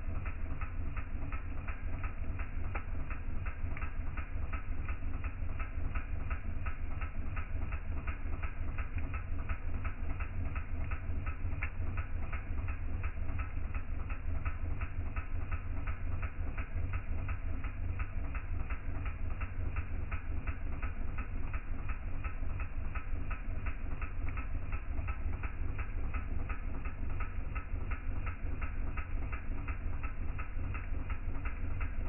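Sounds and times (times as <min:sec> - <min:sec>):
fire ticking: 0:00.0 - 0:32.0.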